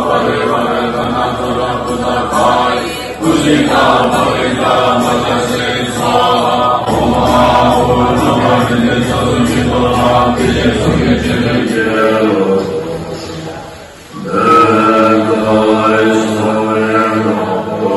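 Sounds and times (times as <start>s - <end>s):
congregation chanting in unison: 0.0s - 17.9s.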